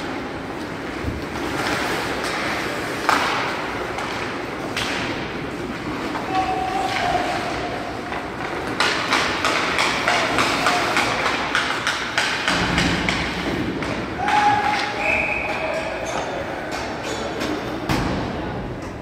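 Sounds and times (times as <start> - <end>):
hockey sticks and puck clacking: 0.0 - 19.0.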